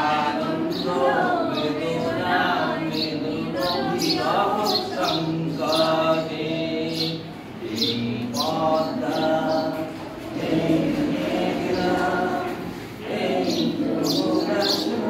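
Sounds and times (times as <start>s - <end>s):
girls singing in chorus: 0.0s - 15.0s.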